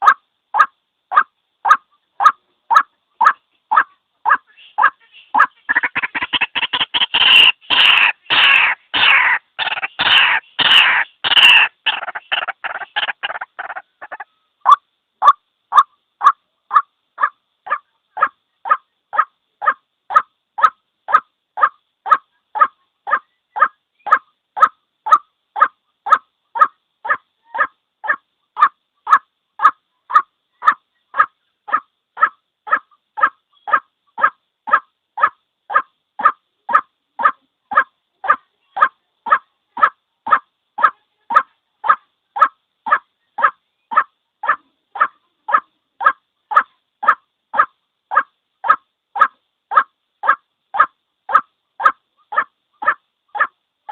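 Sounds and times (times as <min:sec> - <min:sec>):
waterhen calling: 0:00.0 - 0:53.9.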